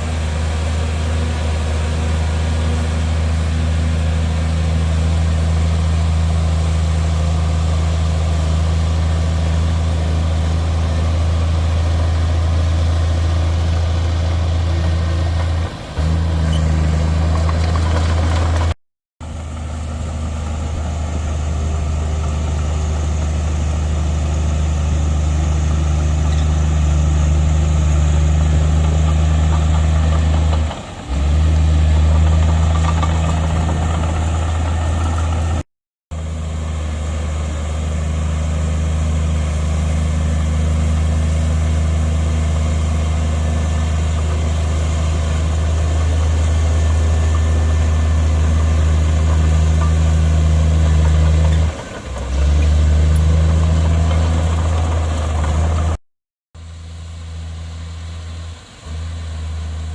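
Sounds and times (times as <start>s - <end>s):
heavy diesel engine droning: 0.0s - 56.0s, 56.6s - 59.9s.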